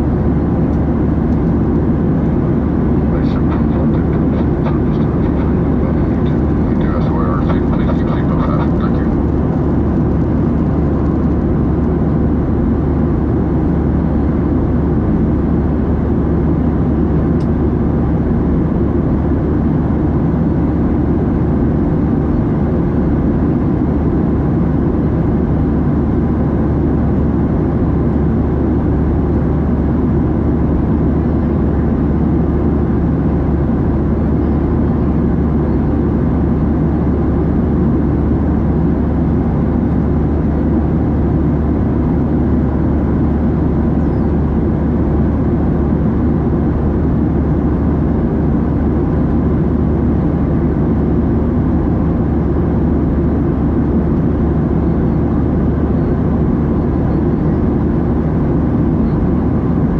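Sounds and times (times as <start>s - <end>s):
airliner cabin drone: 0.0s - 59.9s.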